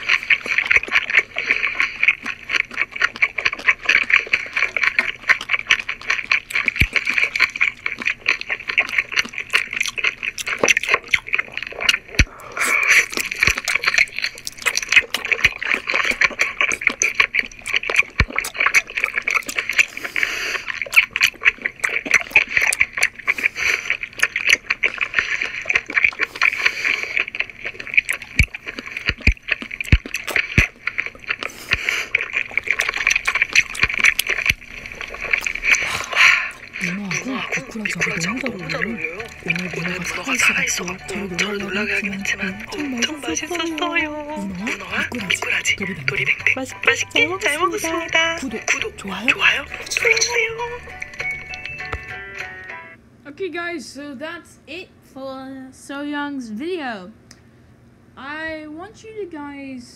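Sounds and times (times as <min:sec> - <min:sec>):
person chewing and smacking: 0:00.0 - 0:52.8.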